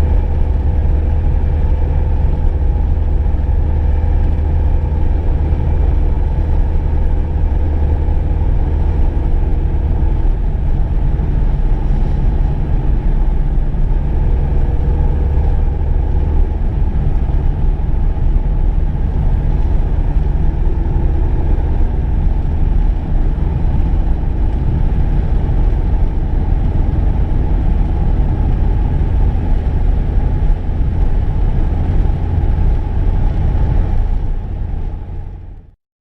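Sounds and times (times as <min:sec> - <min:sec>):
car engine and road rumble: 0:00.0 - 0:35.8.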